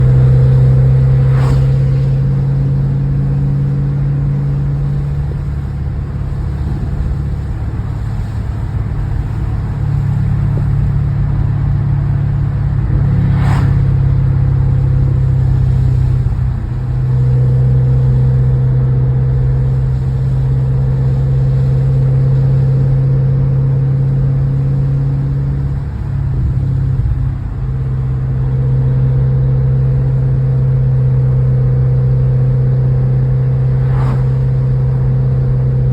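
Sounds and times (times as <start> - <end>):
low exhaust drone: 0.0 - 35.9.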